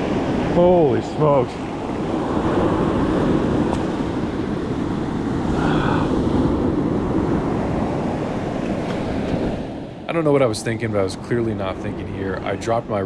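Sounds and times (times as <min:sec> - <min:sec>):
surf washing up sand: 0:00.0 - 0:13.0
wind on microphone: 0:00.0 - 0:13.0.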